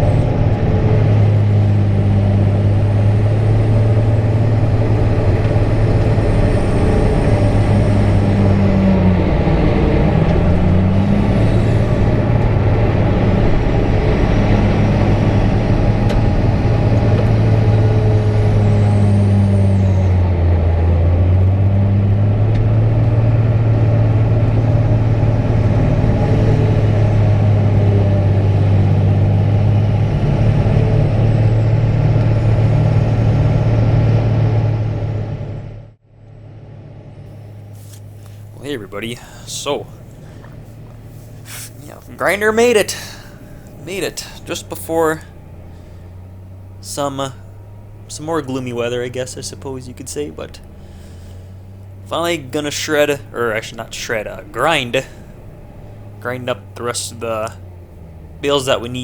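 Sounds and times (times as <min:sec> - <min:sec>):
heavy engine running: 0:00.0 - 0:59.0.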